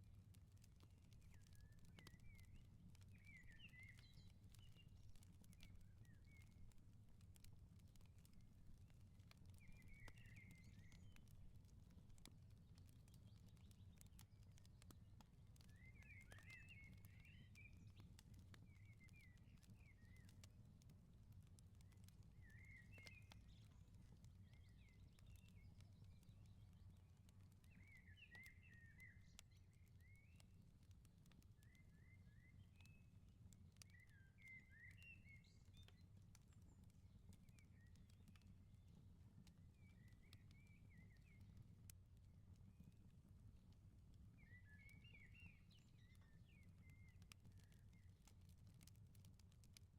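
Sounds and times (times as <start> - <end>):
fire crackling and popping: 0.0 - 49.9.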